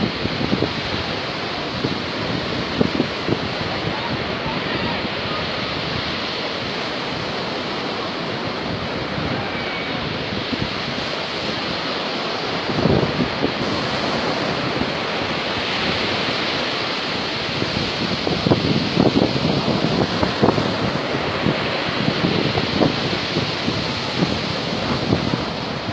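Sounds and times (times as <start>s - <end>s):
surf breaking on a beach: 0.0s - 25.9s
wind buffeting the microphone: 0.0s - 25.9s.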